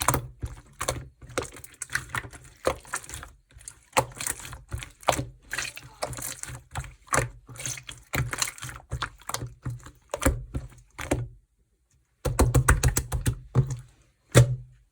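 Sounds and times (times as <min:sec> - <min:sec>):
slime squishing with clicks: 0:00.0 - 0:14.9.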